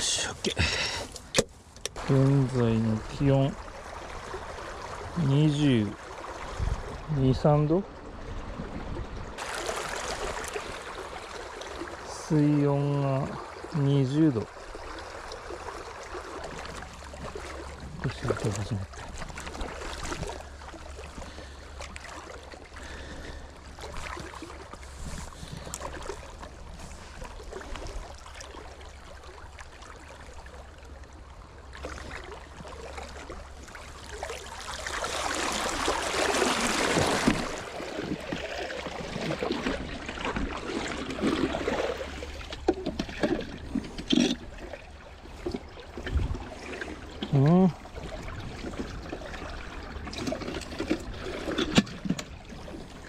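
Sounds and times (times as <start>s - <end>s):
river water flowing: 0.0s - 53.0s
water splashing: 0.0s - 53.0s.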